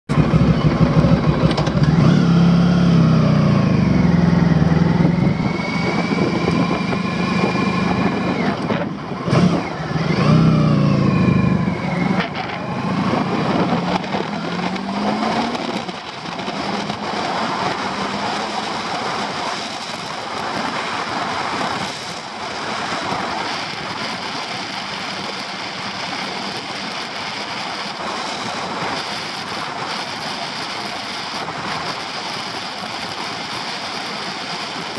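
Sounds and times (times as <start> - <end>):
motorcycle engine accelerating: 0.1 - 34.9
wind noise over microphone: 0.1 - 34.9.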